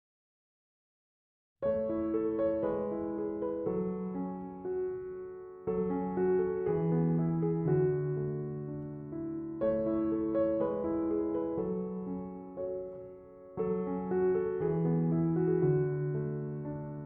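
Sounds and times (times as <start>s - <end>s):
soft piano chords: 1.6s - 17.0s.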